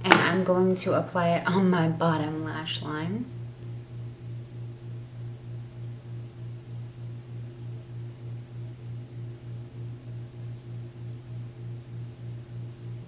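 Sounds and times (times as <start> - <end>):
pulsing electrical hum: 0.0 - 13.0.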